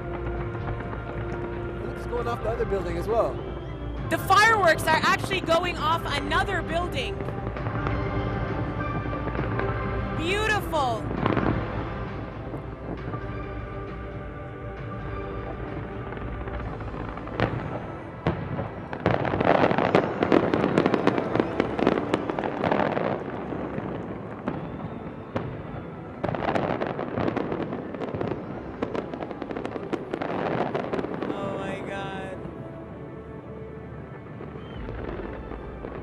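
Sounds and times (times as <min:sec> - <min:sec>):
fireworks bangs: 0:00.0 - 0:14.2, 0:14.8 - 0:32.6, 0:34.4 - 0:36.0
fireworks crackling and popping: 0:00.0 - 0:32.7, 0:34.2 - 0:36.0
music: 0:00.0 - 0:36.0.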